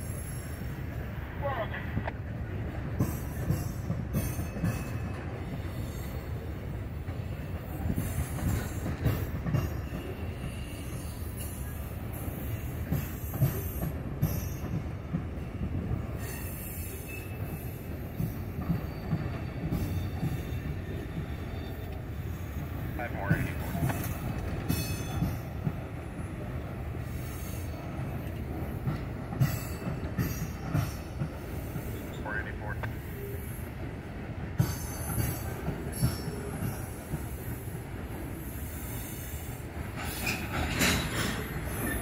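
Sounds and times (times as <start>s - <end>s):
steel wheels rumbling on rail: 0.0s - 42.0s.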